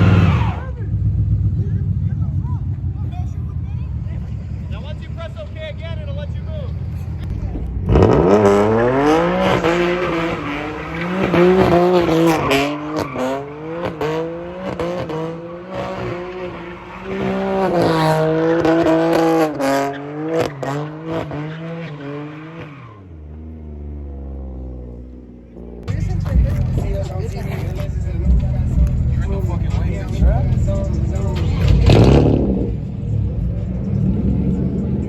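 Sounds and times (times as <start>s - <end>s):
car engine idling: 0.0s - 17.6s, 23.1s - 35.0s
car engine revving: 0.0s - 35.0s.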